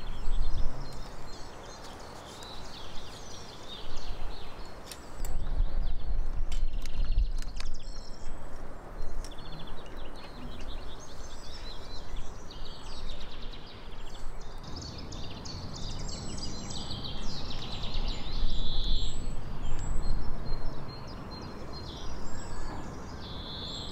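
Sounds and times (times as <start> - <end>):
songbirds chirping and trilling: 0.0 - 23.9.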